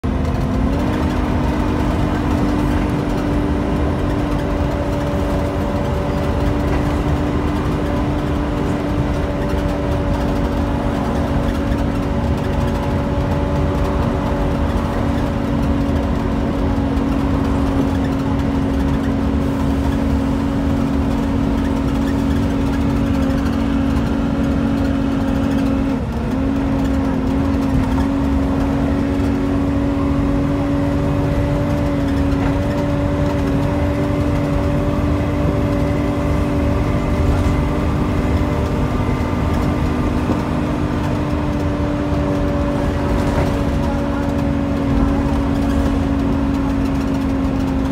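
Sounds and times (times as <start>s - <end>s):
bus diesel engine whine and rumble: 0.0s - 47.9s.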